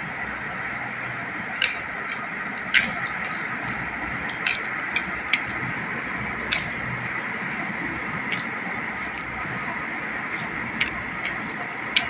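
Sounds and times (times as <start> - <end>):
rice mixed by hand clicking: 1.4 - 12.0.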